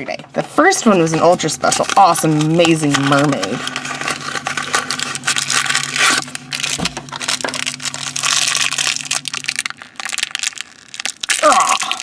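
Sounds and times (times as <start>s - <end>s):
packaging crinkling and tearing: 0.8s - 12.0s.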